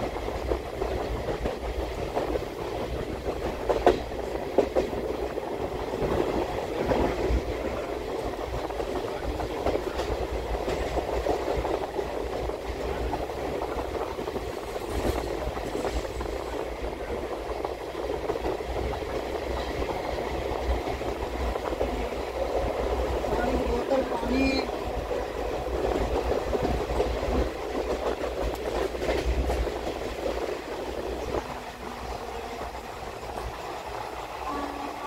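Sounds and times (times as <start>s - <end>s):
sharp clicks of train wheels: 0.0s - 34.6s
train wheels rumbling on track: 0.0s - 35.0s.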